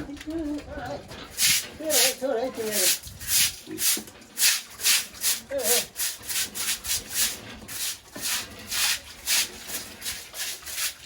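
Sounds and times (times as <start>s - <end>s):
rhythmic brushing strokes: 1.3s - 11.0s.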